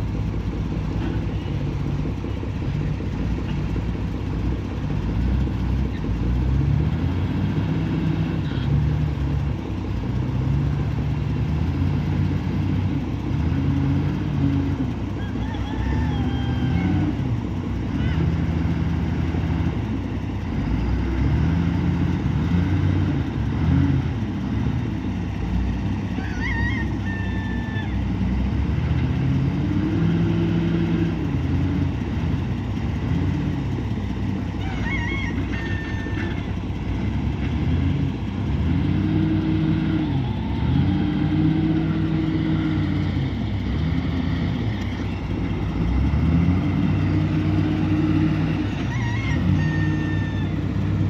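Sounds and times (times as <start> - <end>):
diesel engine revving: 0.0 - 51.0.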